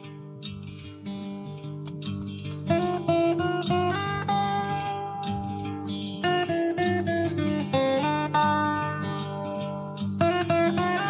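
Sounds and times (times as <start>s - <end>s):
acoustic guitar plucking melody: 0.0s - 11.0s.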